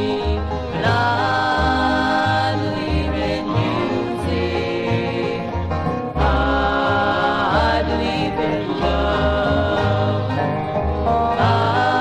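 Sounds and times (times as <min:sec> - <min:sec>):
bluegrass string band playing: 0:00.0 - 0:12.0.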